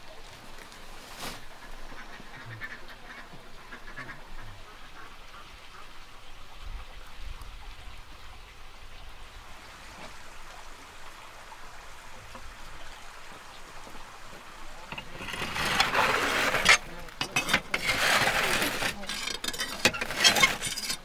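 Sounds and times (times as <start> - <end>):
light rain patter: 0.0 - 21.0.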